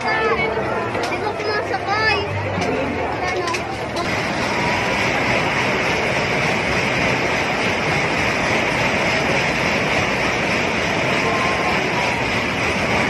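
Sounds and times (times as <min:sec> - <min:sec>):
ride cars rolling on steel track: 0:00.0 - 0:13.0.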